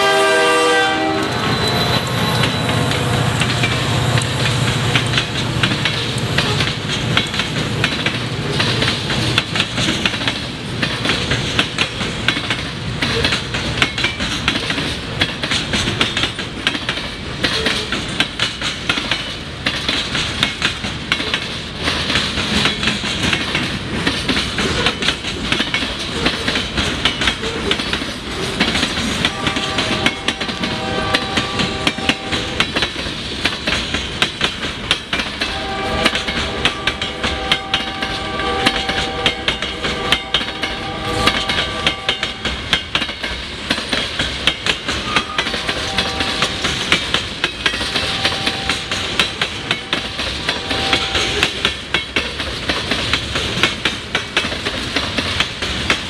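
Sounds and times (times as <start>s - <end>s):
freight train rumbling past: 0.0s - 56.0s
wheels clacking over rail joints: 1.0s - 56.0s.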